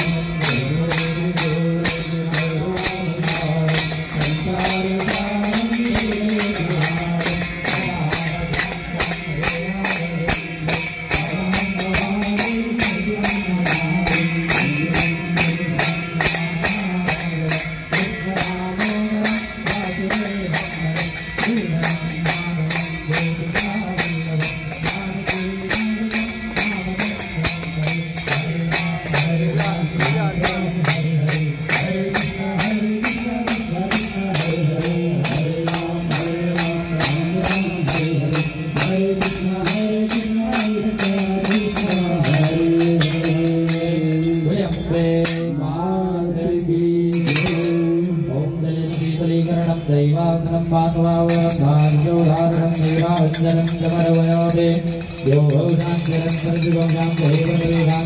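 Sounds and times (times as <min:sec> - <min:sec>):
devotional singing: 0:00.0 - 0:58.0
fast percussive beat: 0:00.0 - 0:58.0.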